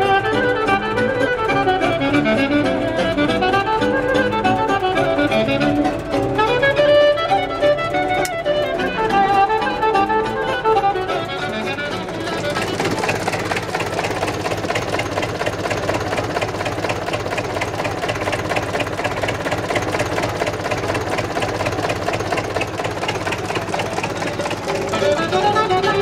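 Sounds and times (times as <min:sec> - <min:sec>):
diesel tractor engine idling: 0:00.0 - 0:26.0
violin music: 0:00.0 - 0:26.0.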